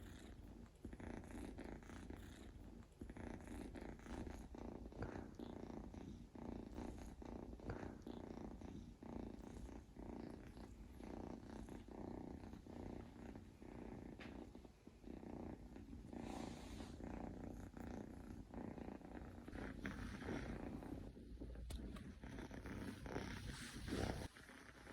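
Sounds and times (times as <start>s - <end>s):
kitten snoring: 0.0s - 24.9s.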